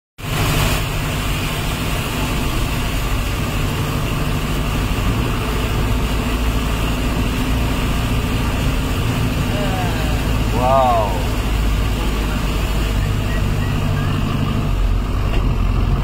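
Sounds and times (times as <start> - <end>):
rushing water: 0.2 - 16.0
vehicle engine humming: 0.2 - 16.0.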